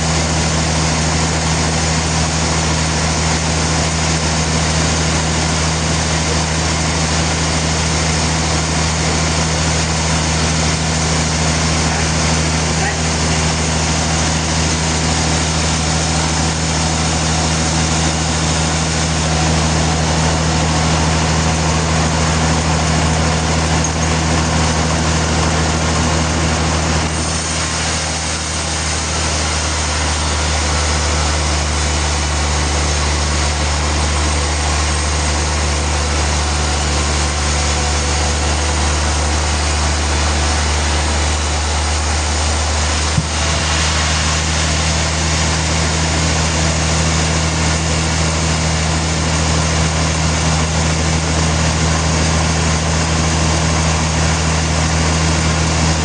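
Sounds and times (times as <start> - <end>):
engine hum: 0.0 - 56.0
sawmill machinery noise: 0.0 - 56.0.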